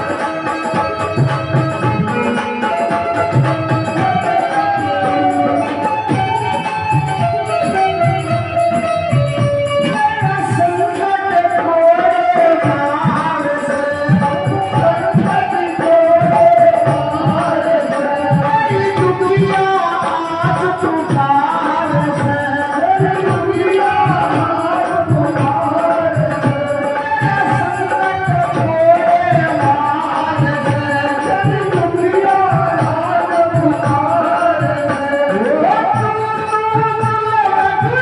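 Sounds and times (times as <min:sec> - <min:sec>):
hand drums: 0:00.0 - 0:38.0
woman singing into a microphone: 0:01.9 - 0:08.6, 0:09.6 - 0:38.0.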